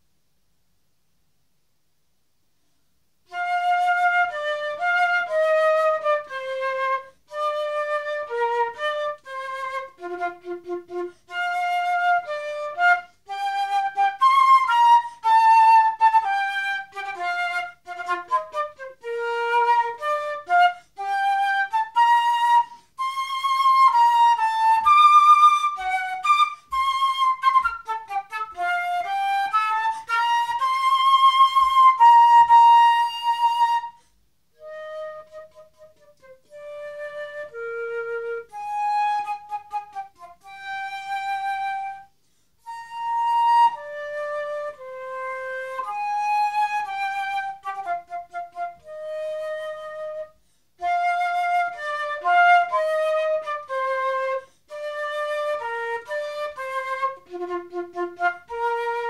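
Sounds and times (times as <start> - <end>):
flute playing a march tune: 3.3 - 59.0.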